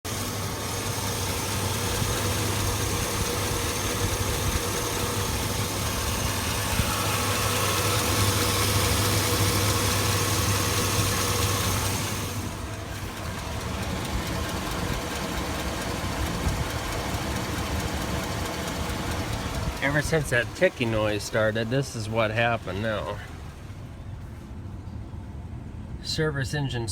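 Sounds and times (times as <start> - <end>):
engine idling with a tick: 0.8 - 25.2.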